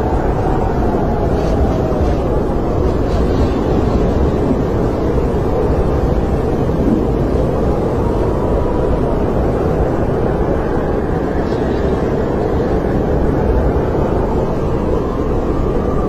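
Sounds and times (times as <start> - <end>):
faint wind whistle: 0.0 - 16.0
snowstorm wind rushing: 0.0 - 16.0.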